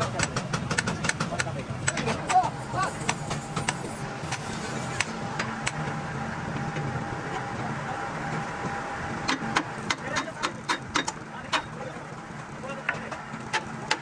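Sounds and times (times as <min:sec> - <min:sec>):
workshop machine hum: 0:00.0 - 0:14.0.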